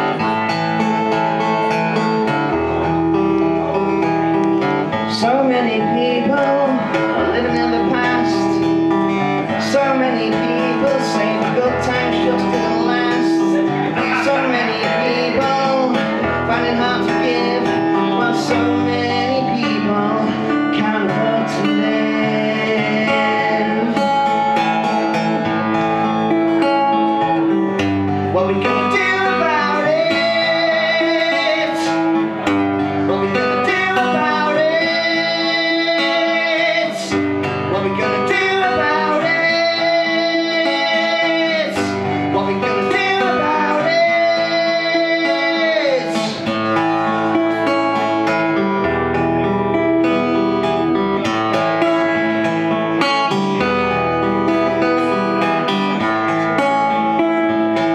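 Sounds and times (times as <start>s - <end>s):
acoustic guitar strumming: 0.0s - 57.9s
man singing: 0.0s - 57.9s.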